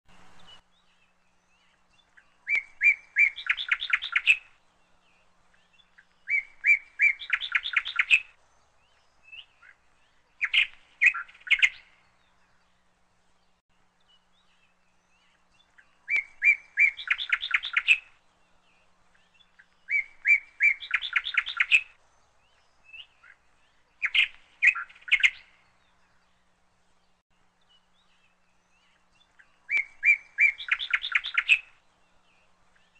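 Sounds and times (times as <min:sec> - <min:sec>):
songbird singing with trill: 0:00.1 - 0:32.9.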